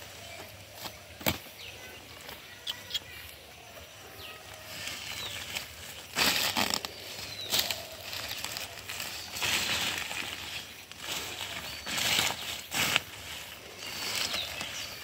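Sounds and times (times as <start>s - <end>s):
leaves rustling underfoot: 0.0s - 15.0s.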